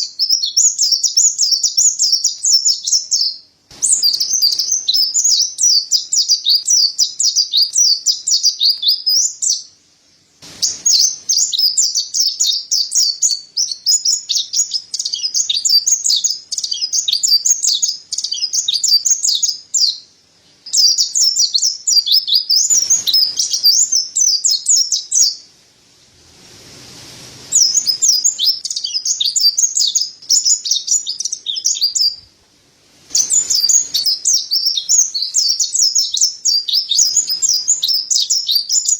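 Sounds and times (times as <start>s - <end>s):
bird singing high twittering song: 0.0s - 25.5s, 27.5s - 32.4s, 33.1s - 38.9s.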